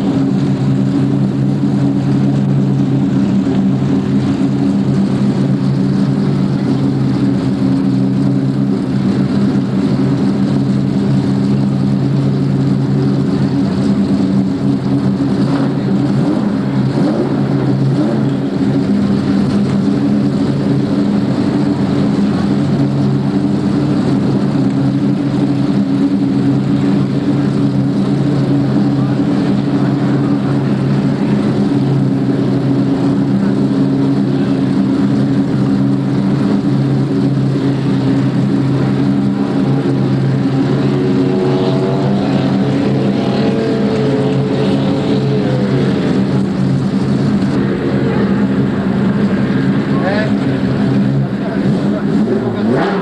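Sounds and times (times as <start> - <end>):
powerboat engines droning: 0.0 - 53.0.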